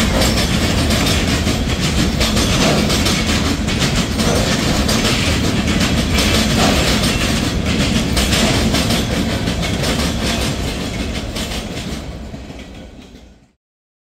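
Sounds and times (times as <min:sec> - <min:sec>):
wheels clicking over rail joints: 0:00.0 - 0:13.4
freight train rumbling past: 0:00.0 - 0:13.6.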